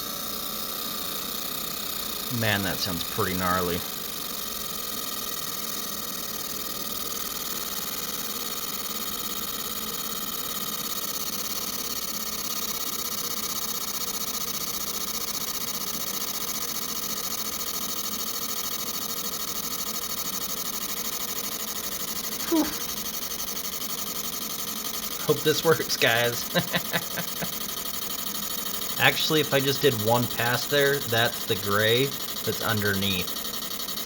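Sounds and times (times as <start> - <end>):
air compressor motor running: 0.0 - 34.0.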